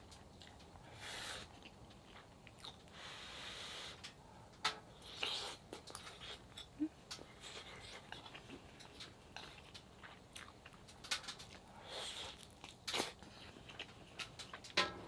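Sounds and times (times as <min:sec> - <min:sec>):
crunchy chewing: 0:00.0 - 0:03.0, 0:05.0 - 0:14.8.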